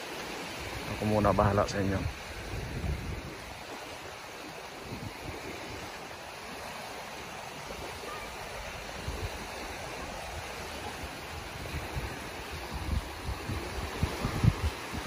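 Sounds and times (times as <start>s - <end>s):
small waves on sandy beach: 0.0s - 15.0s.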